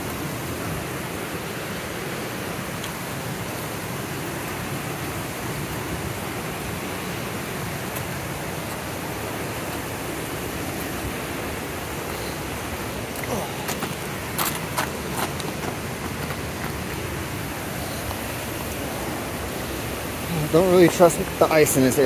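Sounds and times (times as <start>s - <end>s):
brook and waterfall rushing: 0.0s - 22.0s.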